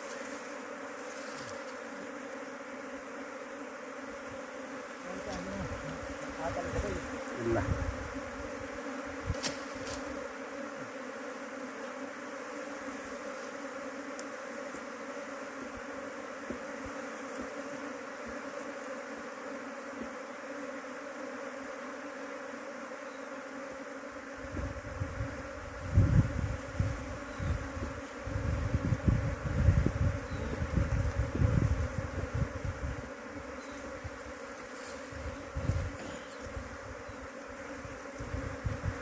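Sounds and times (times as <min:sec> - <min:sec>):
honeybees buzzing: 0:00.0 - 0:39.0.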